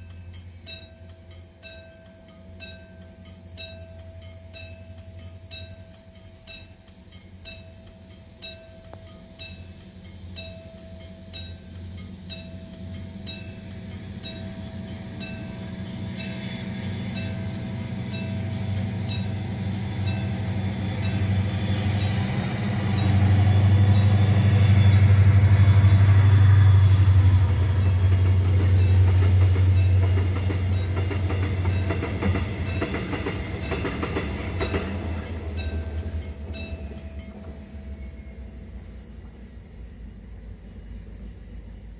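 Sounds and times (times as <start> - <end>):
train wheels clacking on rail joints: 0.0 - 37.8
diesel locomotive engine drone: 0.0 - 41.9.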